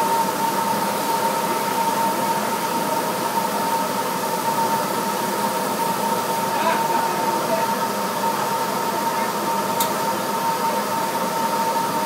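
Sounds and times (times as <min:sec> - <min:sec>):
shop vac running: 0:00.0 - 0:12.0.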